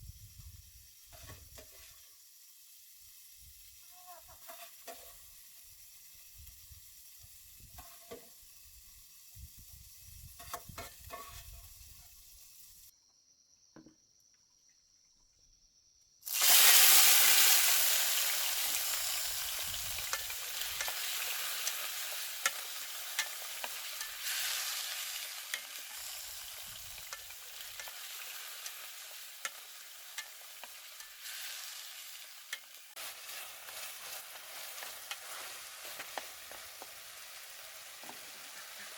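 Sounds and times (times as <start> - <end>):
food sizzling in hot oil: 0.0 - 12.9, 16.2 - 38.9
soft crackling from a pan: 0.0 - 12.9, 16.3 - 38.9.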